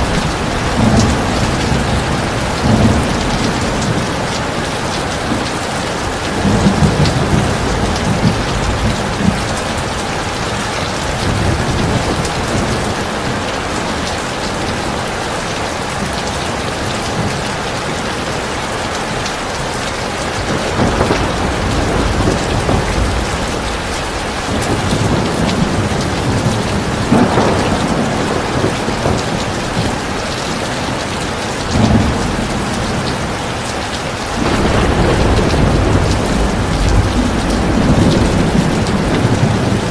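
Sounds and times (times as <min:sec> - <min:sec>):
thunder rumbling: 0:00.0 - 0:18.4, 0:20.0 - 0:39.9
heavy rain pouring: 0:00.0 - 0:39.9.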